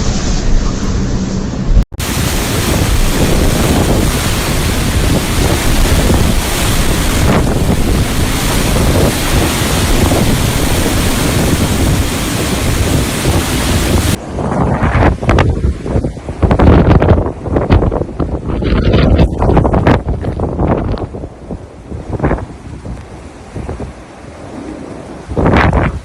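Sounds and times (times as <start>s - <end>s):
strong wind on microphone: 0.0s - 26.0s.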